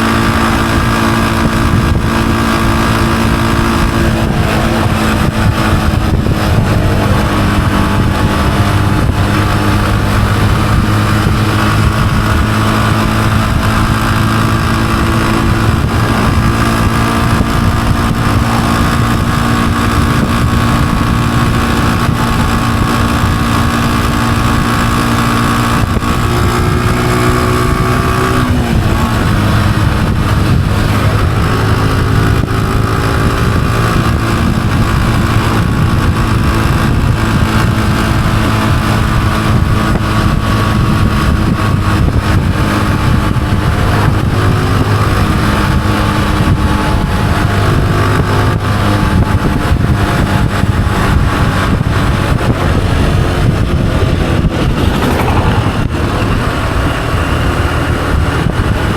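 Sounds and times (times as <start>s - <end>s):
motorcycle engine cruising: 0.0s - 58.9s
wind noise: 0.0s - 58.9s.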